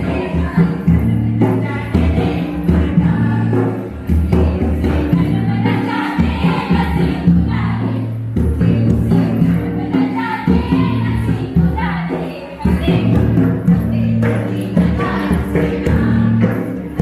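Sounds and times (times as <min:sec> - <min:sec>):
music with regular beat: 0:00.0 - 0:17.0
voices singing together: 0:00.0 - 0:17.0.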